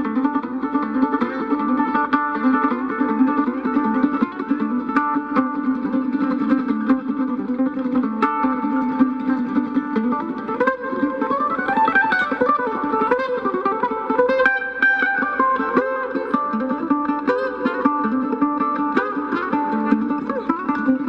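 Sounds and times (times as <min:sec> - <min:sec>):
mandolin picked melody: 0:00.0 - 0:21.0.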